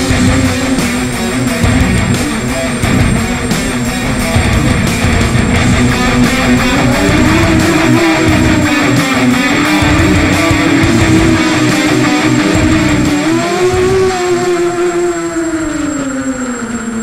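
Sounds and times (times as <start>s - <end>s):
guitar-led music: 0.0s - 15.6s.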